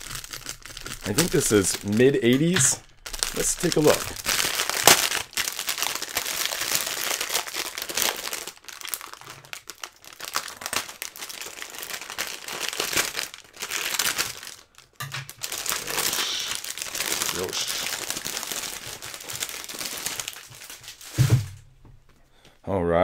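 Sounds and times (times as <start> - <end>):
plastic wrapping crinkling: 0.0 - 22.2.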